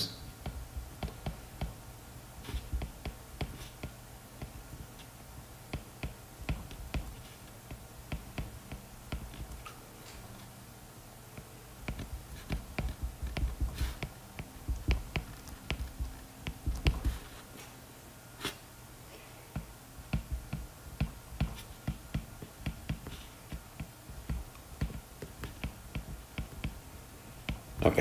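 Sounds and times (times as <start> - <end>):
stylus tapping on tablet screen: 0.4 - 9.7, 11.3 - 17.4, 19.5 - 27.8.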